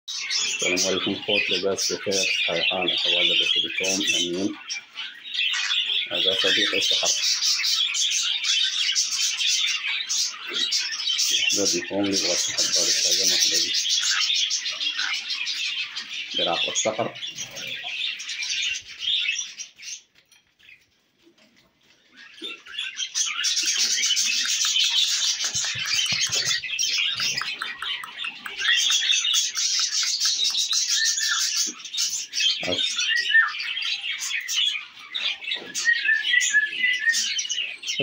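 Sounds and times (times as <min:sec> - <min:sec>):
cockatiels chirping: 0:00.1 - 0:20.9, 0:21.8 - 0:38.0.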